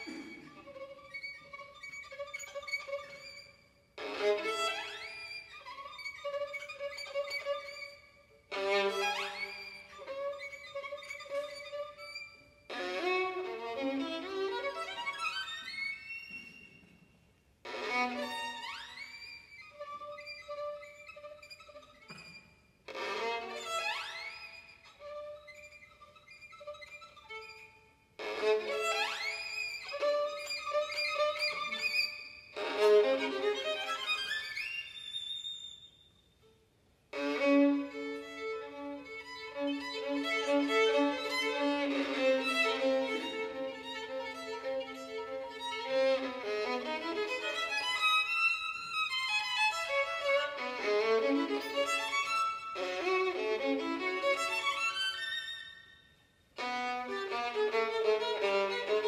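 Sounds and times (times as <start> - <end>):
solo violin playing: 0.0 - 17.0, 17.6 - 35.8, 36.4 - 56.0, 56.6 - 59.0.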